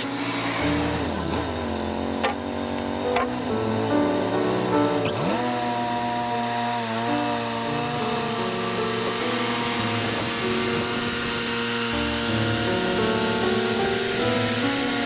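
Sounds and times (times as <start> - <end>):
band sawmill cutting timber: 0.0 - 15.0.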